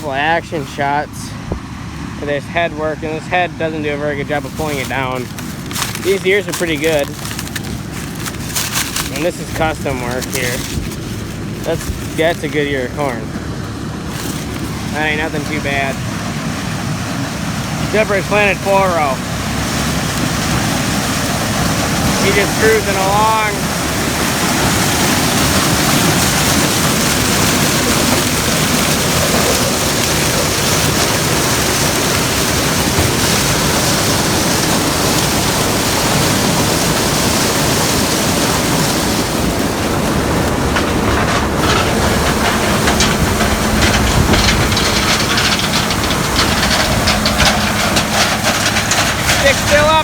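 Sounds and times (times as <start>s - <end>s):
combine harvester running: 0.0s - 50.0s.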